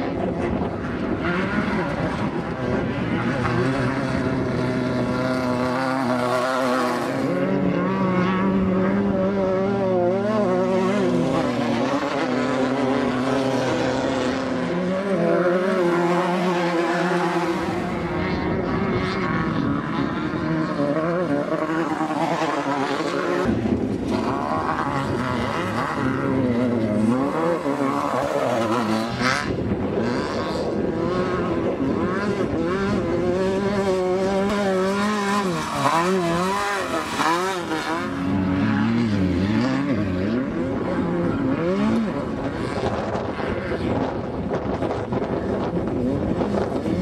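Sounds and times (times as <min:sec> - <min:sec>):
race buggy engines revving: 0:00.0 - 0:47.0.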